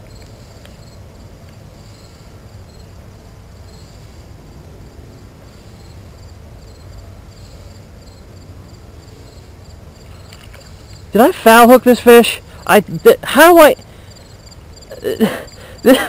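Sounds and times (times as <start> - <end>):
insects chirping in trills: 0.0 - 16.0
low steady rumble: 0.0 - 16.0.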